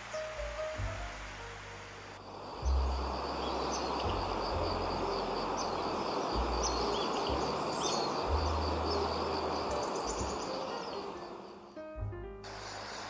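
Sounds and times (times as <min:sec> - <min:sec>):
wind gusts on microphone: 0:00.0 - 0:11.5
noisy hiss: 0:00.0 - 0:13.0
high-pitched insect trill: 0:00.1 - 0:11.8, 0:12.5 - 0:13.0.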